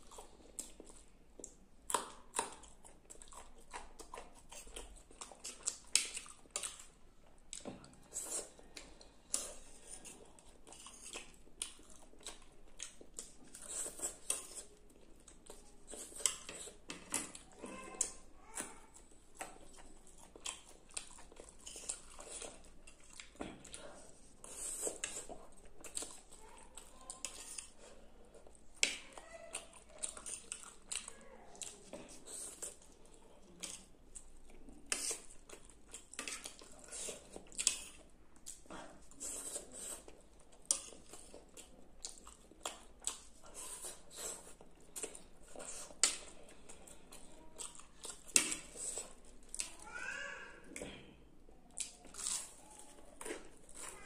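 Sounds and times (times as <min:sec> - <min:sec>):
chewing: 0:00.0 - 0:50.0, 0:50.6 - 0:54.0.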